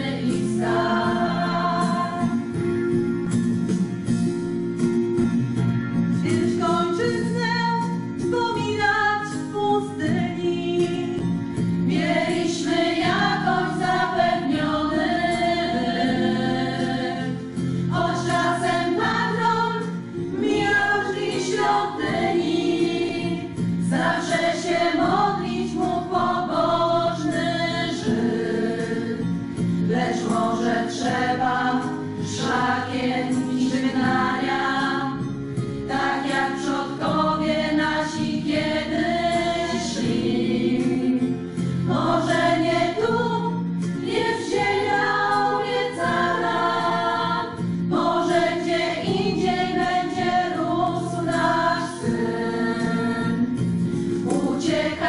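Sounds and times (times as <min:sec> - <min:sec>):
women's choir singing: 0:00.0 - 0:02.6, 0:11.8 - 0:55.0.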